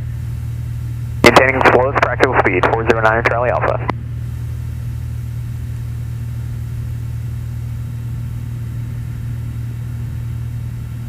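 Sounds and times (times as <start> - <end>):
airplane engine droning: 0.0 - 11.0.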